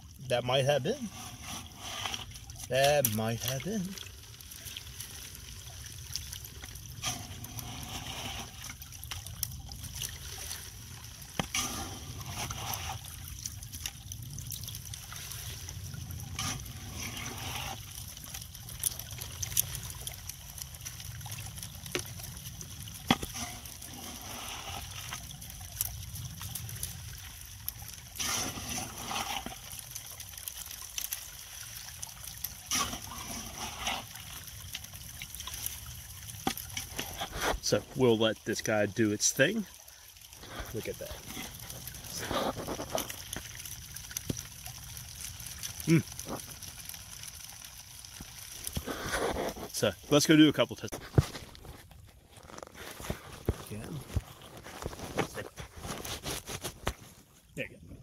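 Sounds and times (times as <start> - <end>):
creek water trickling: 0.0 - 58.0.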